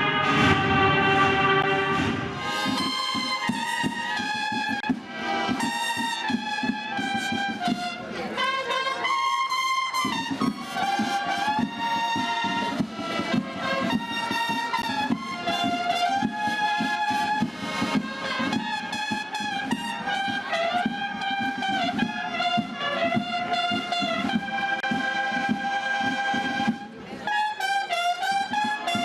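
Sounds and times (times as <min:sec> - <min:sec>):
steady drum beat: 0:00.0 - 0:27.2
cornets playing march melody: 0:00.0 - 0:29.0.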